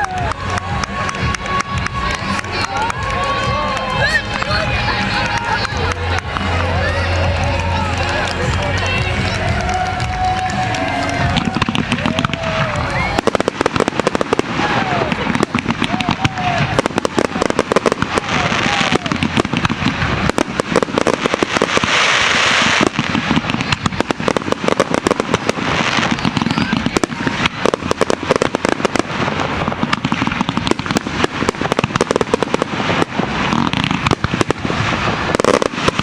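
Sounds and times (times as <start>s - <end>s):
firework crackling: 0.0s - 36.0s.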